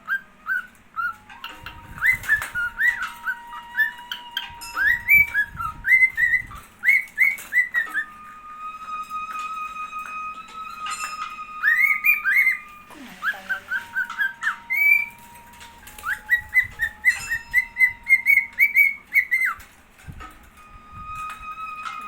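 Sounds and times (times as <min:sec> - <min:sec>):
cockatiel chirping: 0:00.0 - 0:08.2, 0:09.3 - 0:19.7
background music: 0:00.0 - 0:19.5.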